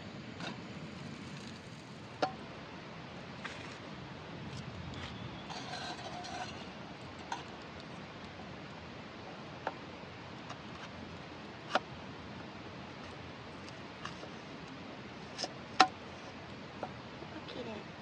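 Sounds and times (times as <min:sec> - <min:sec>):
campfire crackling: 0:00.0 - 0:17.4
steady hiss: 0:00.0 - 0:18.0.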